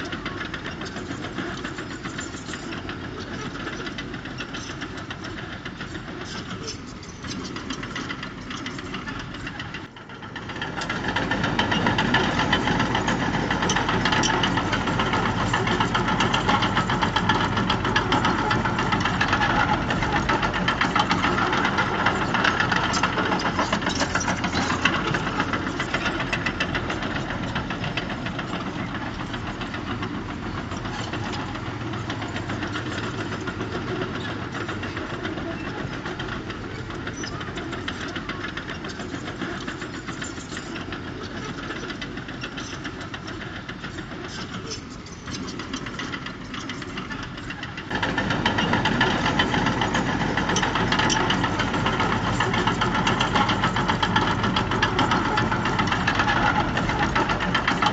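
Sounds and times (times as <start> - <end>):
heavy diesel engine knocking: 0.0 - 57.9.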